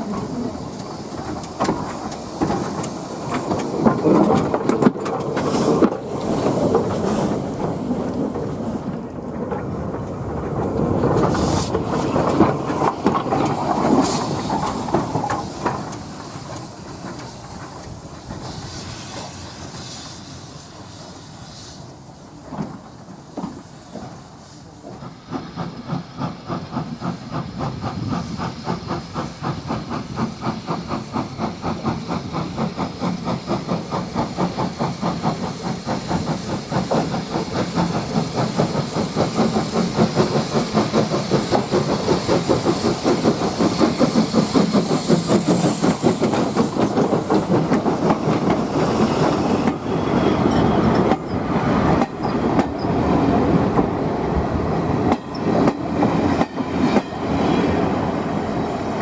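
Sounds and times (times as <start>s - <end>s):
steam hissing: 0.0s - 59.0s
train rumbling and clattering: 0.0s - 59.0s.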